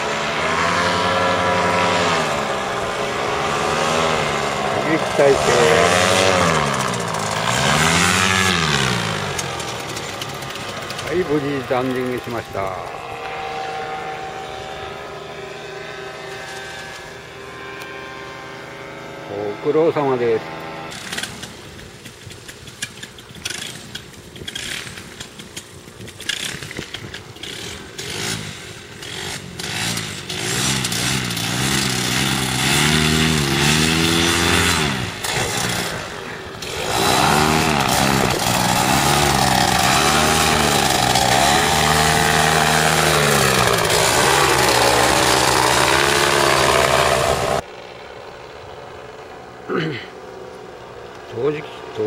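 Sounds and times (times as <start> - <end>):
paramotor engine revving: 0.0 - 22.5, 23.4 - 47.7.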